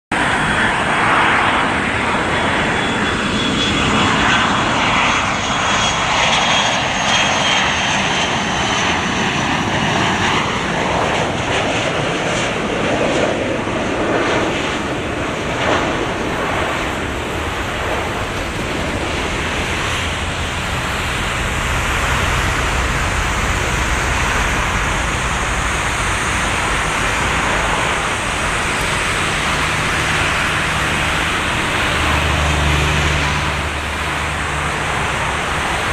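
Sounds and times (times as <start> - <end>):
jet airliner engines roaring: 0.1 - 35.9.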